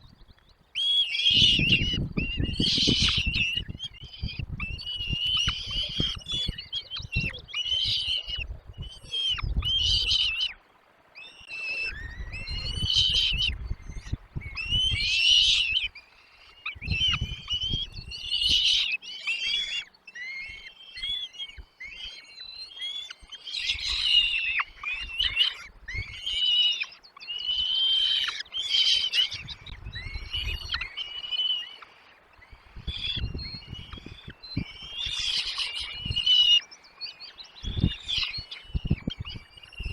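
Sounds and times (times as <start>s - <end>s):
bird chicks chirping: 0.0s - 10.6s, 11.2s - 39.9s.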